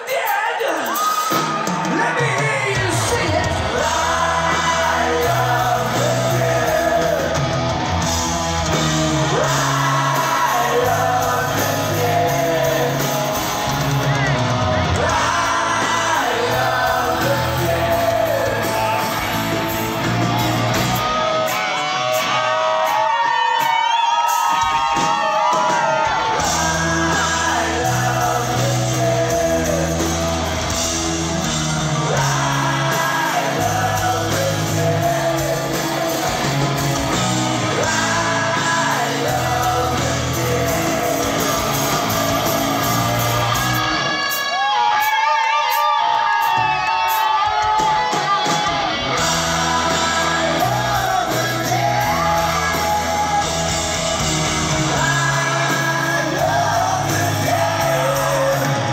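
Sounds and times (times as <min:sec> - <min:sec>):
person singing: 0:00.0 - 0:07.6, 0:09.1 - 0:20.0, 0:25.8 - 0:30.7, 0:31.7 - 0:58.9
shouted vocals: 0:00.0 - 0:58.9
electric guitars: 0:00.9 - 0:58.9.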